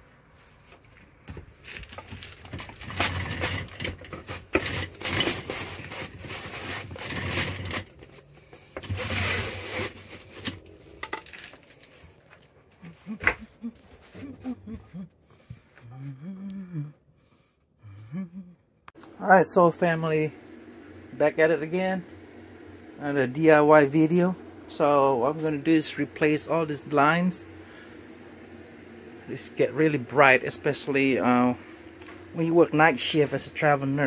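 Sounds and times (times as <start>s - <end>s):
roller shade scraping and rattling: 0.3s - 12.8s, 19.0s - 34.0s.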